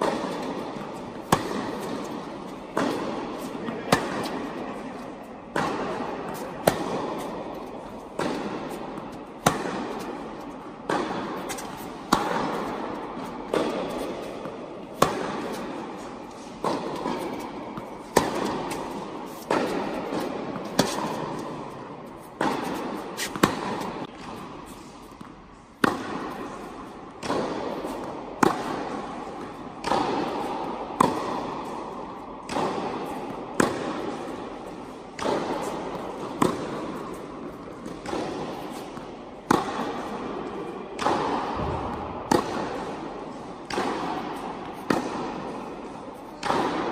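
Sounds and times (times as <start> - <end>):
tennis ball bouncing: 0.0 - 46.9
tennis racket hitting ball: 0.0 - 46.9.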